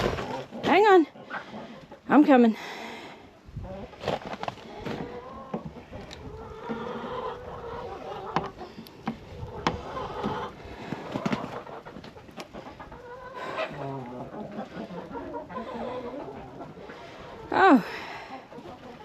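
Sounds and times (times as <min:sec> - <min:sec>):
hens clucking: 0:00.0 - 0:02.6, 0:03.2 - 0:19.0.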